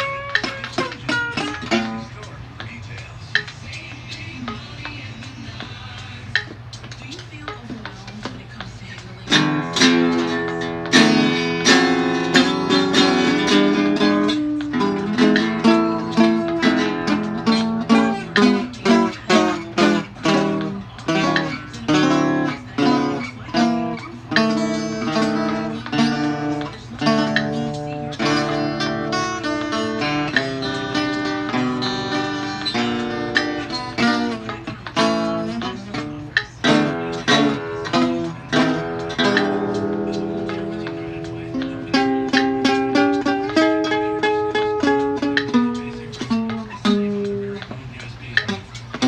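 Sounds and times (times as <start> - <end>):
acoustic guitar playing: 0.0 - 49.0.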